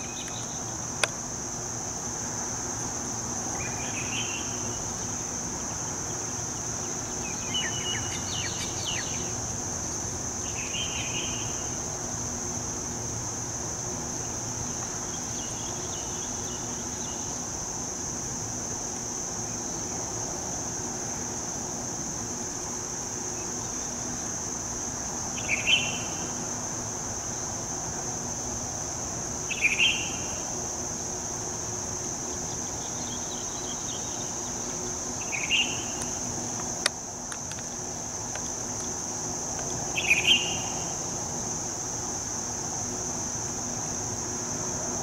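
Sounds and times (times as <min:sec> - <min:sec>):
high-pitched insect chorus: 0:00.0 - 0:45.0
low background hum: 0:00.0 - 0:45.0.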